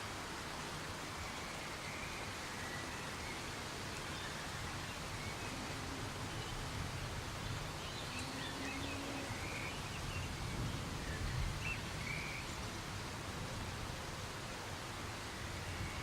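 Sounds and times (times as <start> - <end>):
soft rain falling: 0.0 - 16.0.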